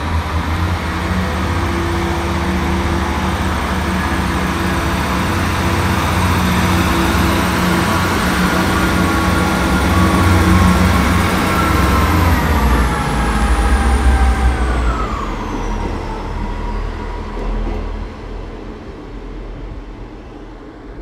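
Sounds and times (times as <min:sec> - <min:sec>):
train engine running: 0:00.0 - 0:21.0.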